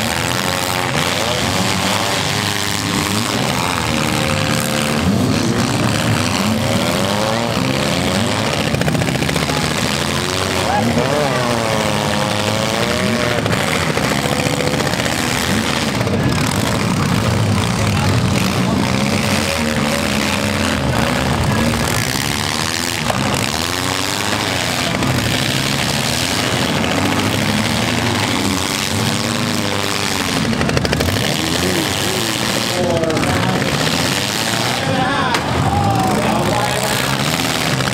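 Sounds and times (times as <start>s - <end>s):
car engines revving hard: 0.0s - 37.9s.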